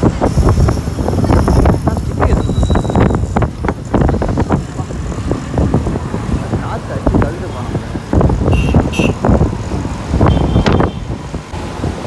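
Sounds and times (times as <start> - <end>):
rumble of passing vehicles: 0.0 - 12.0
wind buffeting microphone: 0.0 - 12.0.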